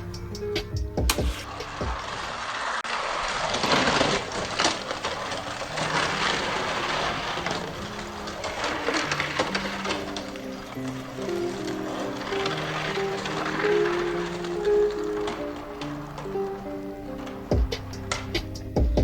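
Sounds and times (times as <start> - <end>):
toy trucks rattling down track: 1.1 - 18.8.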